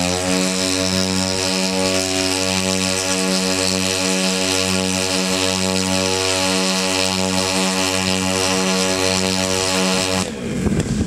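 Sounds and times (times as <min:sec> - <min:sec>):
model aircraft engines humming: 0:00.0 - 0:11.0.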